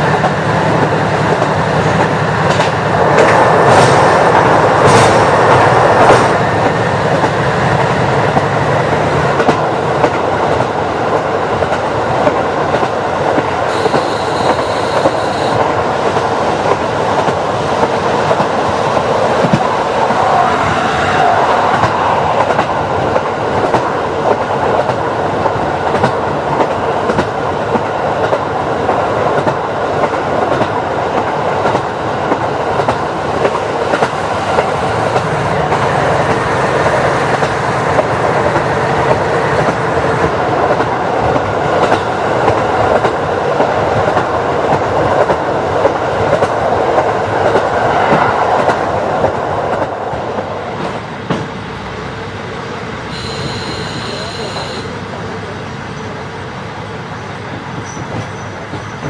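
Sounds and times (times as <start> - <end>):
rail clicks: 0.0 - 59.0
train wheels rumbling on track: 0.0 - 59.0.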